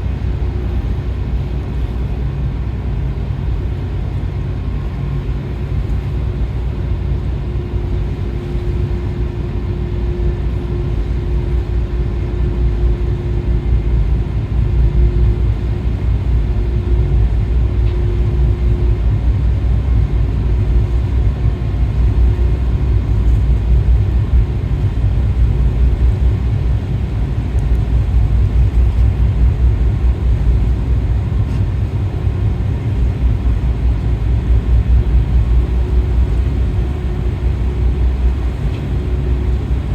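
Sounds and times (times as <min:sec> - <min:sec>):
faint steady hum: 0:00.0 - 0:39.9
ship engine rumble: 0:00.0 - 0:39.9.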